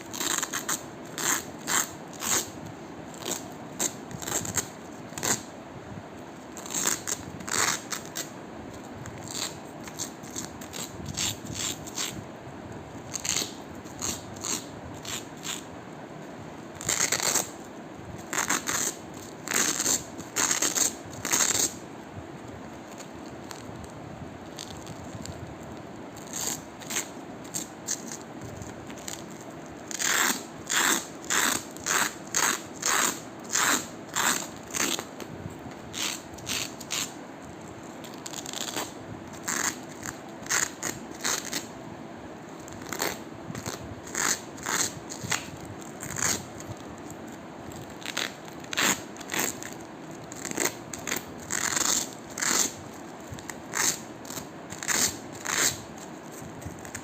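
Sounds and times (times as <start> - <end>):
velcro ripping apart: 0.0 - 5.5, 6.5 - 8.3, 9.1 - 12.2, 13.1 - 15.7, 16.8 - 17.6, 18.2 - 21.8, 22.8 - 35.2, 35.9 - 37.2, 38.0 - 41.7, 42.6 - 57.0.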